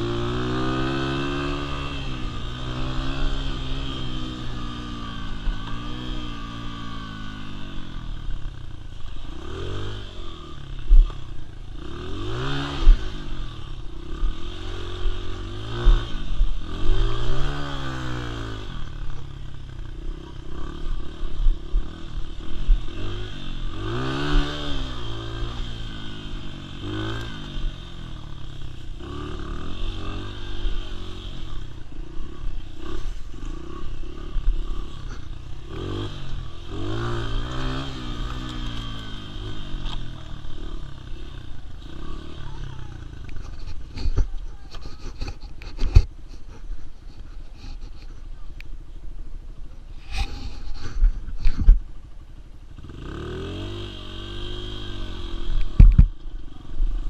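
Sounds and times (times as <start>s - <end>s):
dirt bike engine revving: 0.0s - 46.4s, 52.7s - 57.0s.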